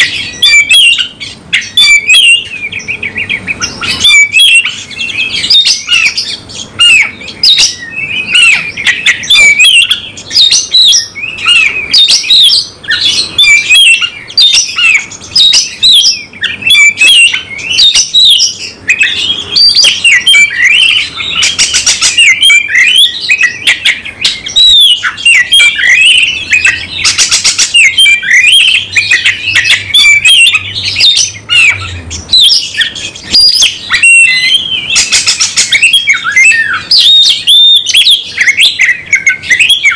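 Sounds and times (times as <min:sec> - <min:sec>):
bird singing whistles and chirps: 0:00.0 - 0:39.9
harsh rasping bird notes: 0:00.0 - 0:39.9.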